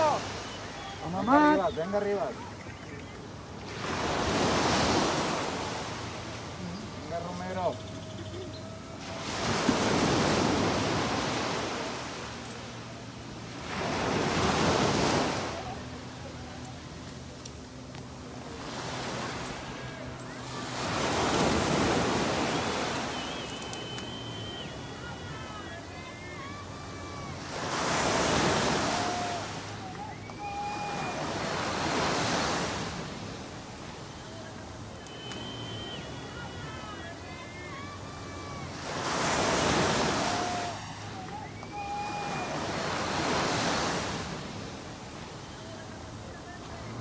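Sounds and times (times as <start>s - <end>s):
waves washing on sandy beach: 0.0s - 47.0s.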